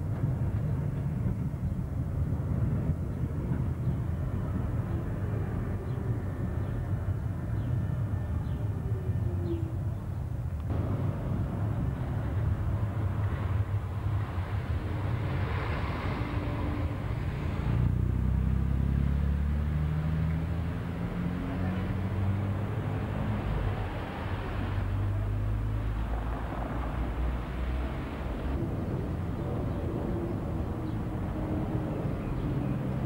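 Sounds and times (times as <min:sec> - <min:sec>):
tram rumbling on track: 0:00.0 - 0:19.4, 0:20.3 - 0:33.0.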